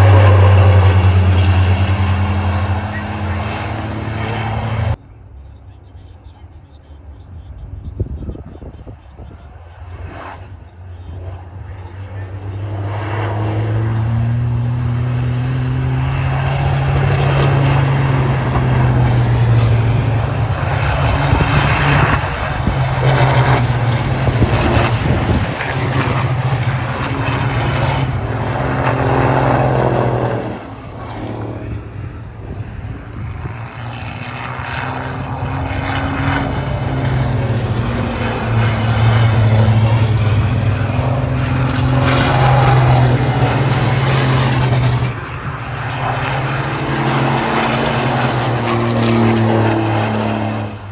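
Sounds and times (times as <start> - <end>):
turbo whine: 0.0 - 5.0, 6.8 - 50.9
truck engines at full throttle: 0.0 - 50.9.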